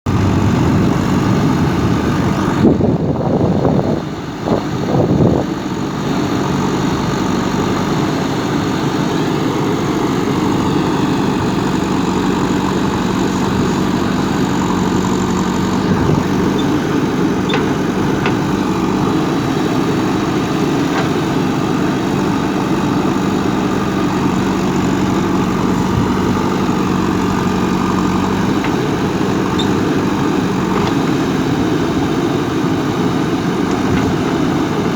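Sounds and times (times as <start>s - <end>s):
diesel engine humming: 0.0s - 34.9s.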